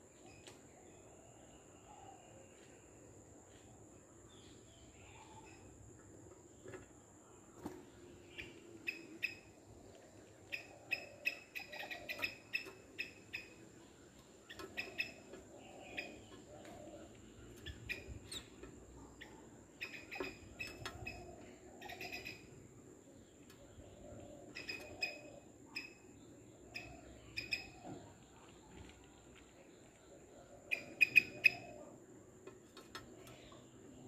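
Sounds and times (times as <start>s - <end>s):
birds chirping: 3.6s - 34.0s.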